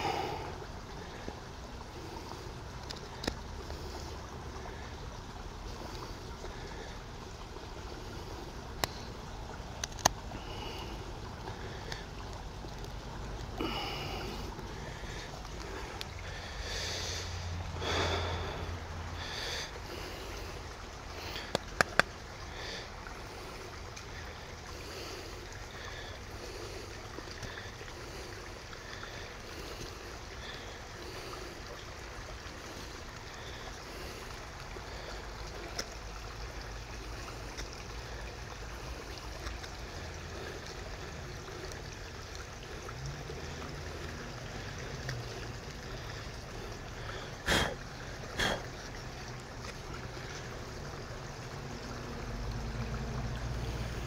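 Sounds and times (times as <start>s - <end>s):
creek flowing over rocks: 0.0s - 54.0s.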